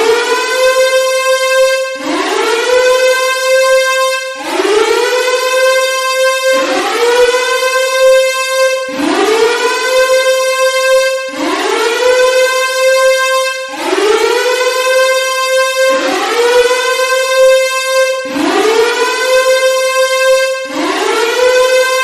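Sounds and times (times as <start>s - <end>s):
air-raid siren wailing: 0.0s - 22.0s.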